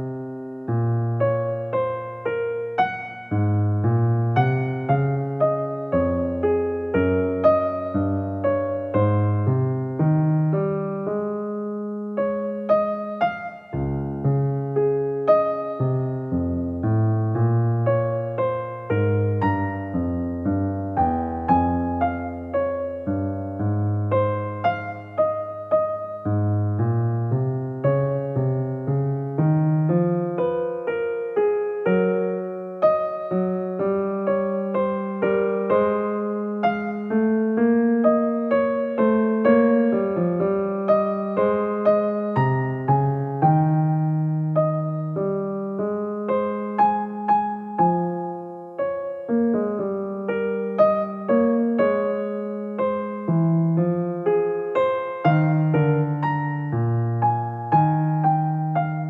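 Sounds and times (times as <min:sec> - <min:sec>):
electric piano melody: 0:00.0 - 0:59.0.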